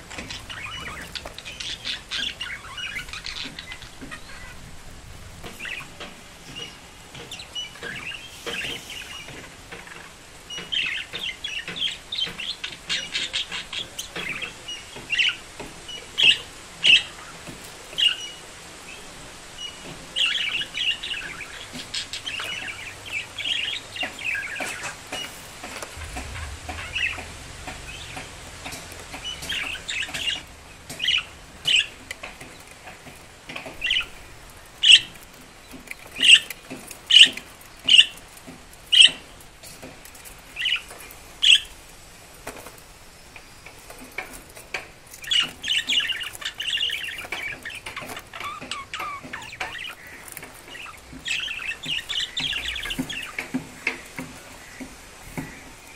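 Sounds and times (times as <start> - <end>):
budgerigars chirping and warbling: 0.1 - 4.7, 5.4 - 38.2, 38.9 - 39.9, 40.6 - 41.8, 45.1 - 54.0.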